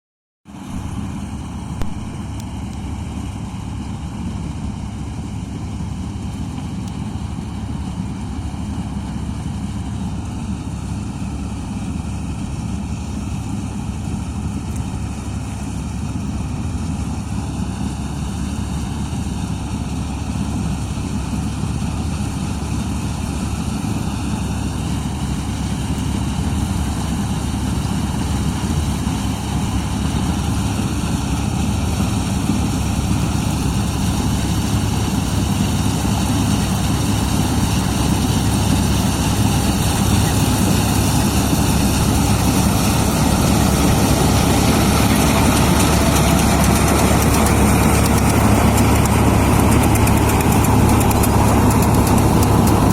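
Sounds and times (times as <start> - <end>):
tractor engine low rumble: 0.5 - 52.9.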